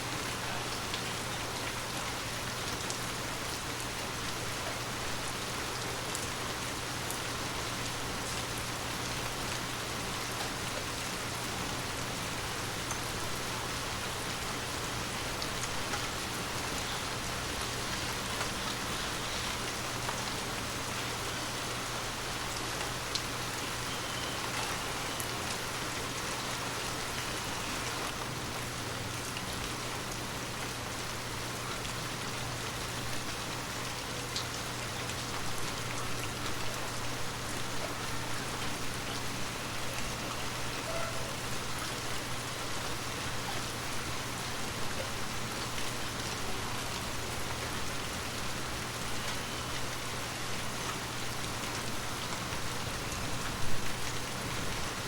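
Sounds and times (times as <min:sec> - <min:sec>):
heavy rain hissing: 0:00.0 - 0:34.2, 0:35.5 - 0:55.0.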